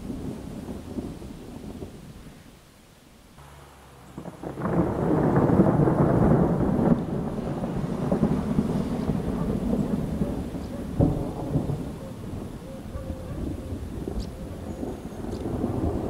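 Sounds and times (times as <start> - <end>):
thunder crackling and rumbling: 0.0 - 2.4, 3.4 - 16.0.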